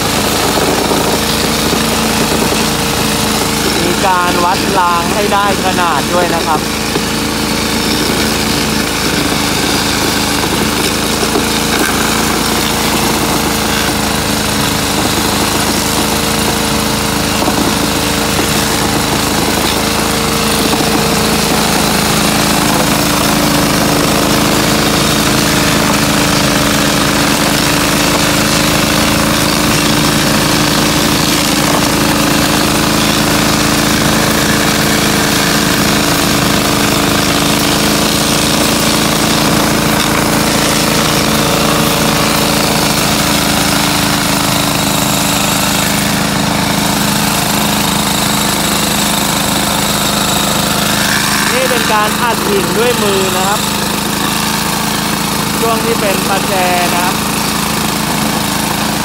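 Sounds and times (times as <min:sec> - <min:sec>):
power tampers droning: 0:00.0 - 0:59.0.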